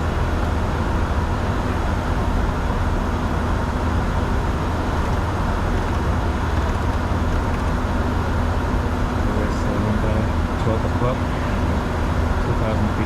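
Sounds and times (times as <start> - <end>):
jet engine drone: 0.0 - 13.0.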